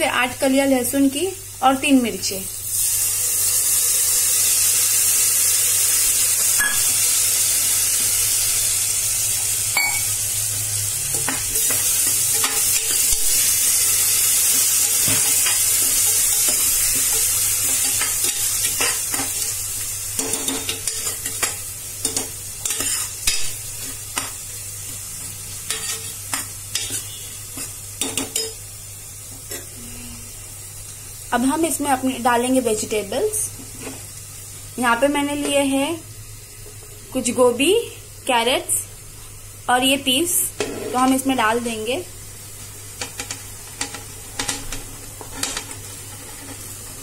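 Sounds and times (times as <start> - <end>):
vegetables sizzling in oil: 0.0 - 47.0.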